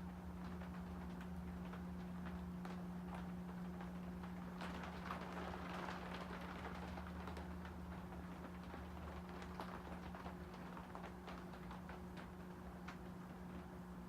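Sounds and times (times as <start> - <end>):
ceiling fan motor hum: 0.0 - 14.0.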